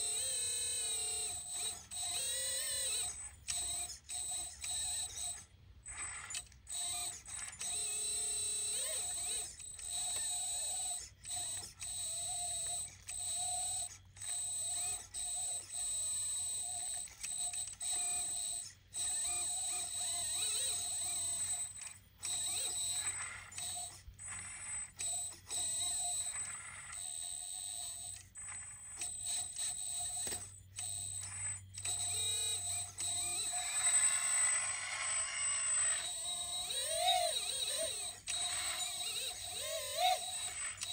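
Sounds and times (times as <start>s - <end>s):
hydraulic pump whining: 0.0s - 40.9s.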